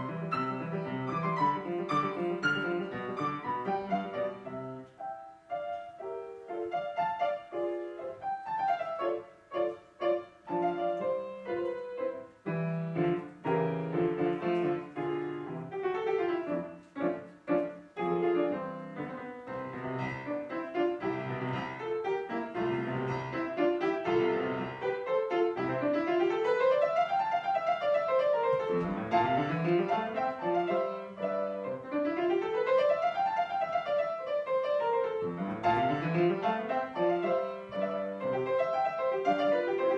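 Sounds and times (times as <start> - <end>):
classical piano piece: 0.0 - 39.9.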